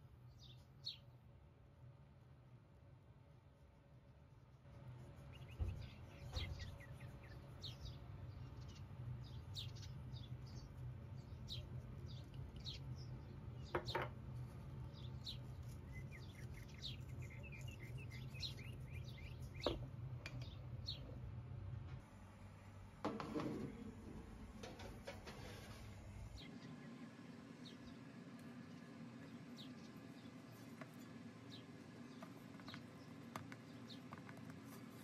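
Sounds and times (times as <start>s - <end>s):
steady low hum: 0.0s - 35.0s
small birds chirping: 0.1s - 1.2s, 4.7s - 21.4s, 24.8s - 35.0s.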